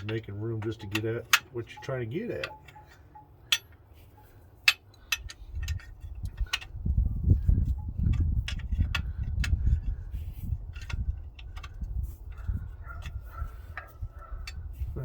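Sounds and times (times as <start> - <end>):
metal wrench clinking on bolt: 0.0 - 9.9, 10.5 - 15.0.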